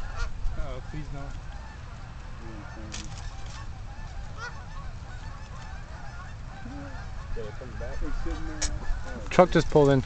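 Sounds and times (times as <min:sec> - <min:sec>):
geese honking: 0:00.0 - 0:10.0
wind rumble on microphone: 0:00.0 - 0:10.0.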